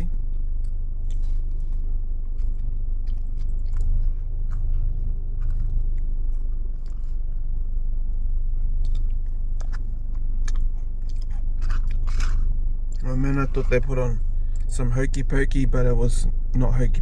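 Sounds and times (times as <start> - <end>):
steady low rumble: 0.0 - 17.0
person chewing crunchy food: 0.1 - 14.7.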